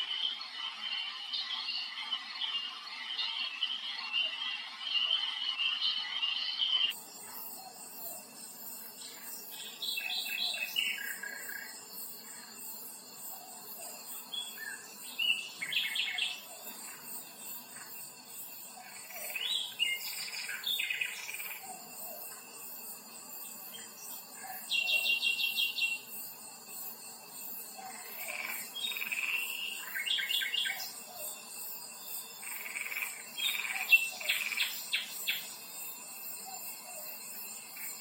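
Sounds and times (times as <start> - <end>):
insects chirring: 0.0 - 38.0
songbirds singing: 0.0 - 38.0.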